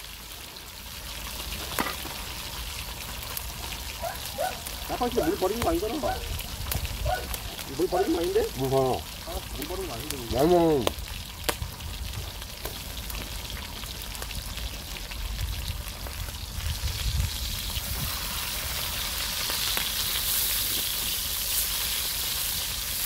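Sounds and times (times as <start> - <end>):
meat sizzling on a grill: 0.0 - 23.0.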